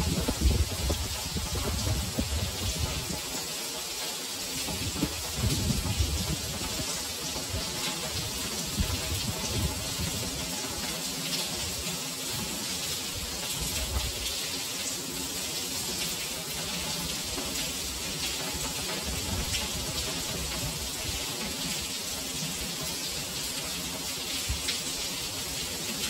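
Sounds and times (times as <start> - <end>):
heavy rain on stone: 0.0 - 26.0.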